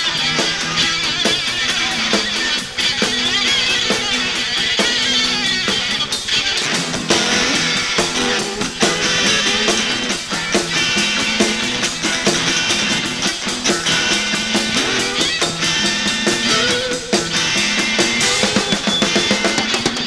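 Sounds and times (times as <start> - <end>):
drum kit beat: 0.0 - 20.0
electric guitar: 0.0 - 20.0
live rock band playing: 0.0 - 20.0.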